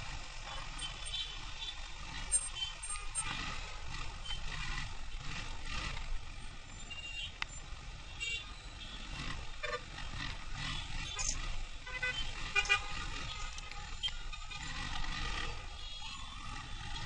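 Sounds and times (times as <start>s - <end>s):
road and wind noise: 0.0s - 17.0s
traffic rumble: 0.0s - 17.0s.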